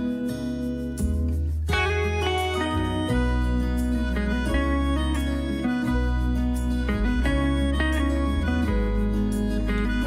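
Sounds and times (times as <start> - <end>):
plucked acoustic guitar: 0.0 - 10.0
sustained bass: 0.0 - 10.0.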